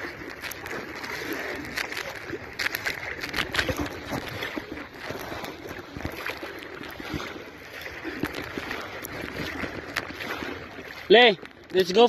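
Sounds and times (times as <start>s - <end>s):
legs wading through water: 0.0s - 12.0s.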